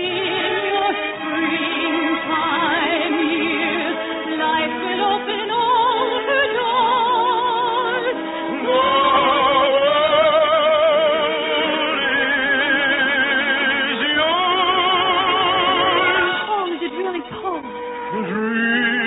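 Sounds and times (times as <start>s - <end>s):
operatic soprano singing: 0.0s - 19.0s
orchestra playing: 0.0s - 19.0s.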